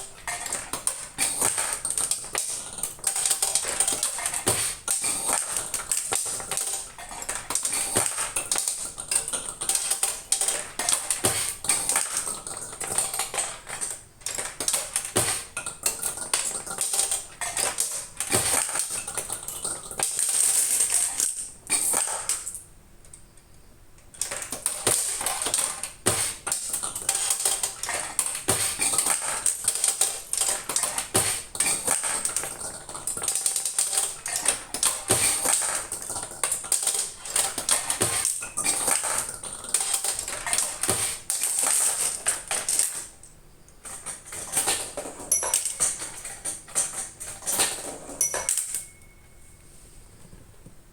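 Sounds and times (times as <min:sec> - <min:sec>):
machine clicking and rattling: 0:00.0 - 0:23.2, 0:24.1 - 0:49.0.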